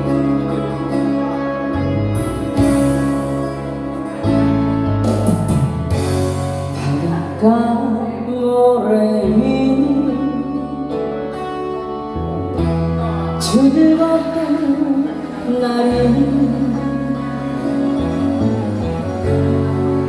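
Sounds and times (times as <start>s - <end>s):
steady bass accompaniment: 0.0s - 20.0s.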